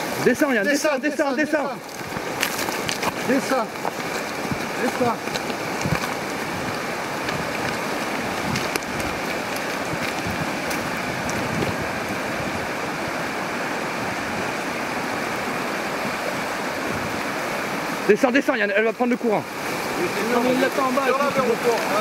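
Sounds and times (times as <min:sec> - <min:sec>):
river rushing over stones: 0:00.0 - 0:22.0.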